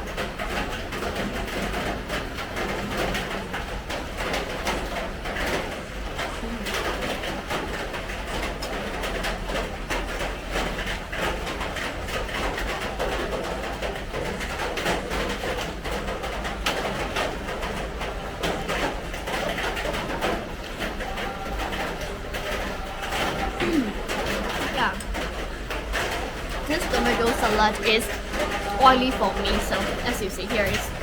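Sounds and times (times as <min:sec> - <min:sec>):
rain patter: 0:00.0 - 0:31.0
street market background noise: 0:00.0 - 0:31.0.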